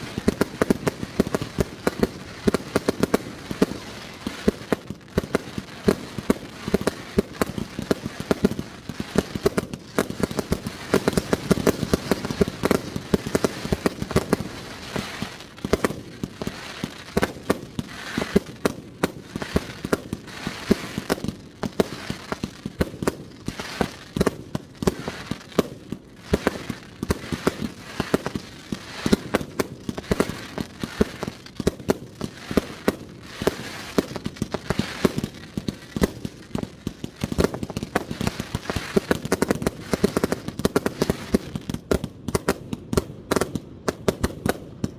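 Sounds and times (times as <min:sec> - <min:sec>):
fireworks launches and bursts: 0:00.0 - 0:44.9.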